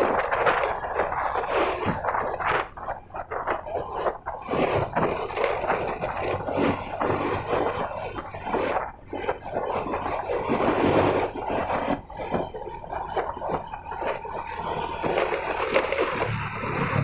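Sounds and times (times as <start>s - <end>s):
faint engine hum: 0.0s - 17.0s
road noise rushing: 0.0s - 17.0s.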